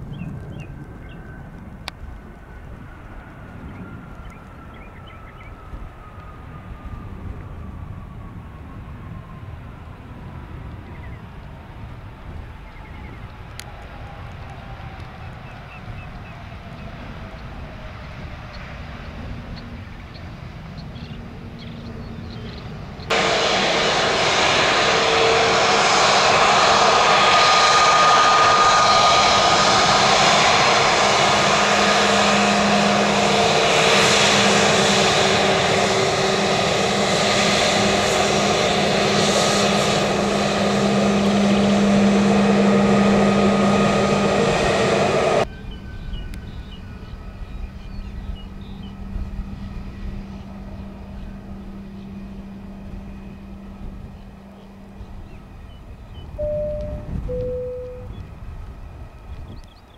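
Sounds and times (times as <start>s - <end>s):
distant aircraft hum: 0.0s - 59.9s
jet engines running: 0.0s - 59.9s.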